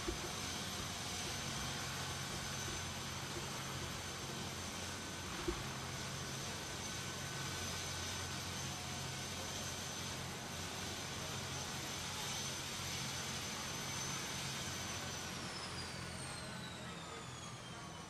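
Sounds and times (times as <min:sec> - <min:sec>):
helicopter turbine engine whine: 0:00.0 - 0:18.0.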